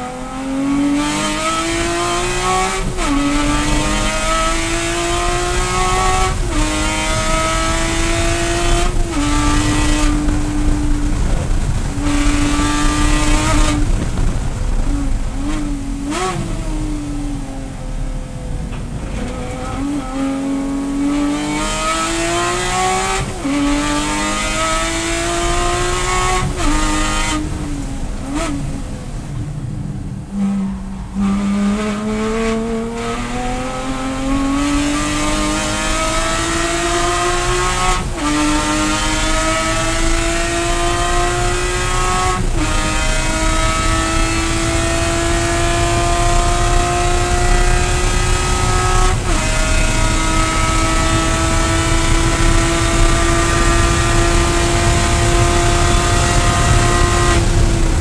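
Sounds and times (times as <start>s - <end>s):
race car engine accelerating: 0.0s - 29.6s, 30.2s - 58.0s.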